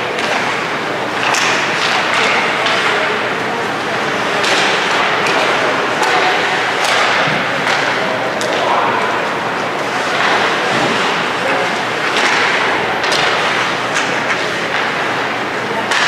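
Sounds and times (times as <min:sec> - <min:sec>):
crowd noise: 0:00.0 - 0:16.0
hockey sticks clacking on puck: 0:00.0 - 0:16.0
skating: 0:00.0 - 0:16.0.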